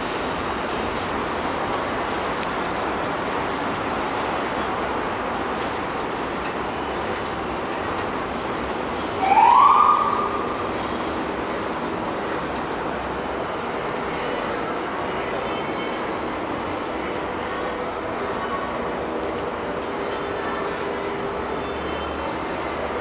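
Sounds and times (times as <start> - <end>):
train rumbling on elevated tracks: 0.0 - 23.0.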